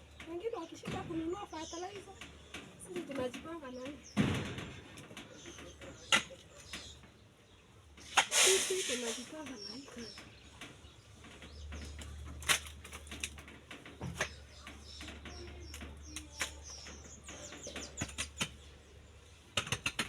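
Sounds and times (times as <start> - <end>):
knocks and rustles: 0.0 - 20.0.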